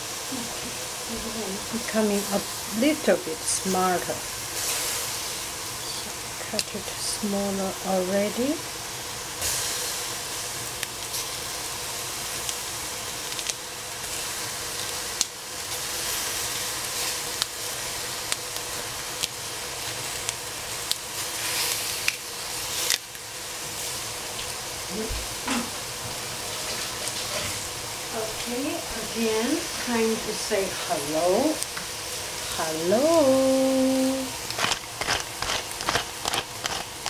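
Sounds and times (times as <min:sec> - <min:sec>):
broccoli sizzling in pot: 0:00.0 - 0:37.0.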